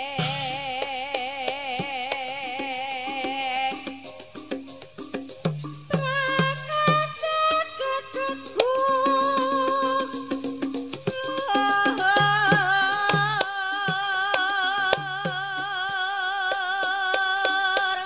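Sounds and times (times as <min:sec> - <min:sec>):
woman singing long notes: 0:00.0 - 0:04.2, 0:05.9 - 0:18.0
drum strokes: 0:00.0 - 0:18.0.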